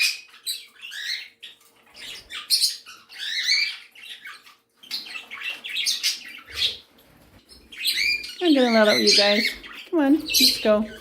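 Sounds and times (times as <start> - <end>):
parrots chirping and calling: 0.0 - 11.0.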